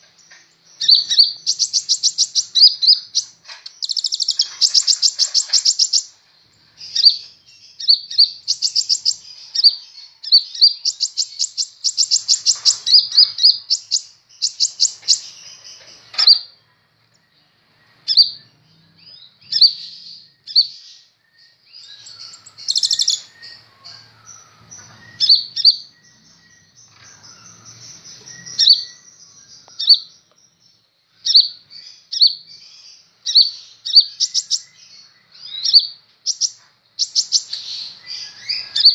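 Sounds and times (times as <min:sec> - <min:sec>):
bird singing high sharp chirps: 0:00.0 - 0:16.6, 0:17.8 - 0:38.9
soft bird twittering: 0:00.0 - 0:38.9.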